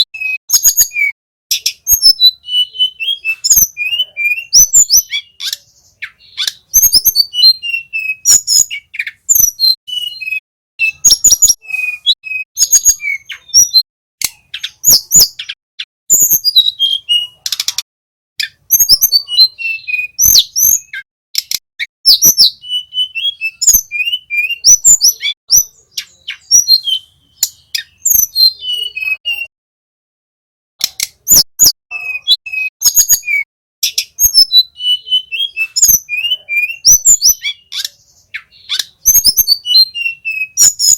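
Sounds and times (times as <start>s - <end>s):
bird singing chirps and trills: 0.0s - 29.5s, 30.8s - 40.9s.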